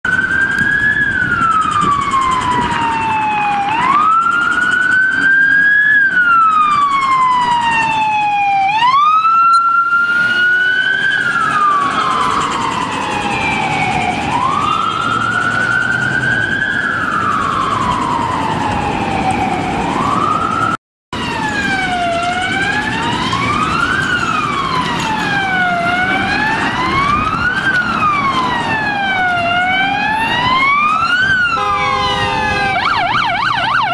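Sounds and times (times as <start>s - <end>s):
police sirens wailing: 0.1s - 33.9s
siren with quick rise and fall: 0.1s - 33.9s.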